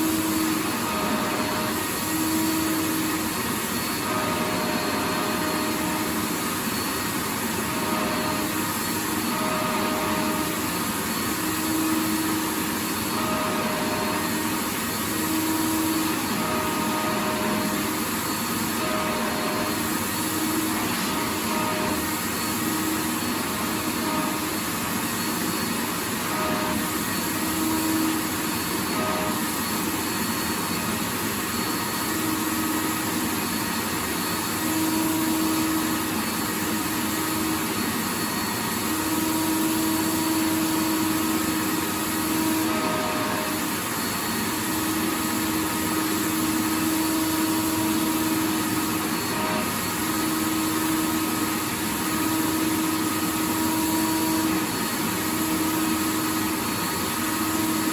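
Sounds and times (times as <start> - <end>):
vacuum cleaner running: 0.0 - 57.9.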